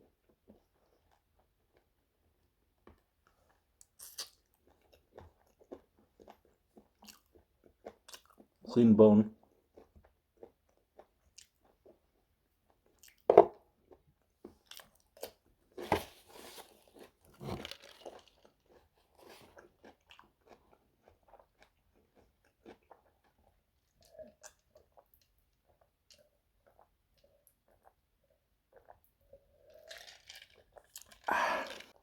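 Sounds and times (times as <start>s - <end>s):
chewing: 2.9s - 8.6s, 9.4s - 13.3s, 13.9s - 15.4s, 16.4s - 32.0s.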